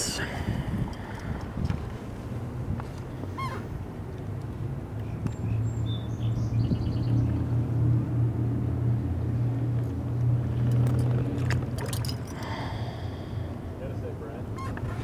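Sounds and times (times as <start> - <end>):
engine low hum: 0.0 - 15.0.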